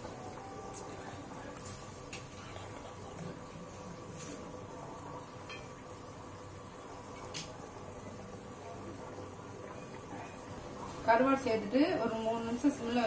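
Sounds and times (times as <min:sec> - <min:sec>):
curry bubbling in pot: 0:02.0 - 0:13.0.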